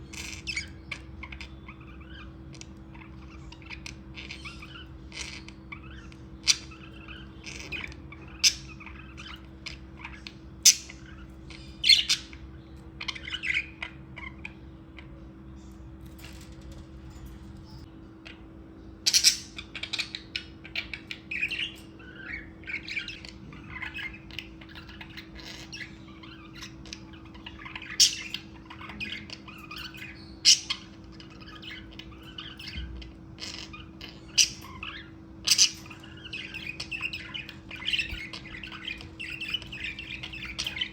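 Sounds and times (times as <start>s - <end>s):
loud bird squawks: 0.0s - 15.3s, 17.6s - 40.9s
budgerigars chirping: 0.0s - 40.9s
faint steady hum: 0.0s - 40.9s.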